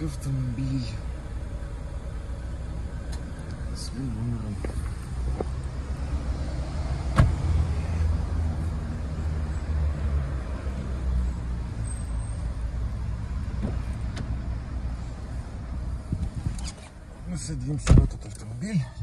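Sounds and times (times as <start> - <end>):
low motor vehicle rumble: 0.0 - 19.0.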